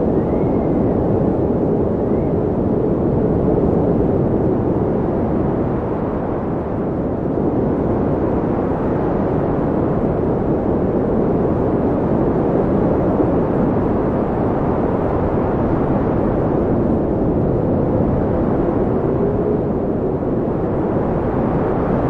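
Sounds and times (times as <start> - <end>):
wind blowing: 0.0 - 22.0.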